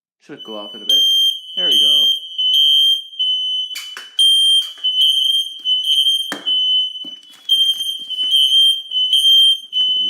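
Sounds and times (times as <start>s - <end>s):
smoke alarm beeping: 0.3s - 10.0s.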